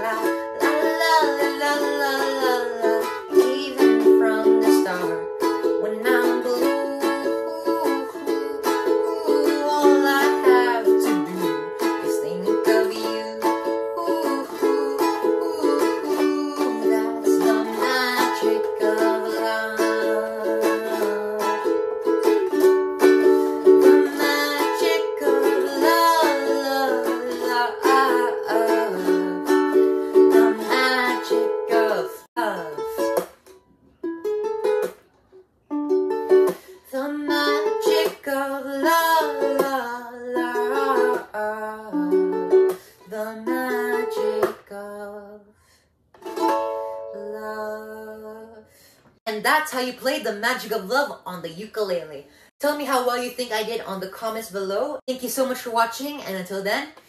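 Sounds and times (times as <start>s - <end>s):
ukulele strumming: 0.0s - 45.4s, 46.1s - 48.5s.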